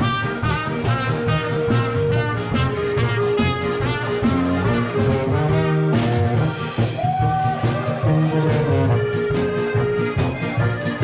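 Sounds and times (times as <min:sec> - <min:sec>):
oompah band playing: 0:00.0 - 0:11.0.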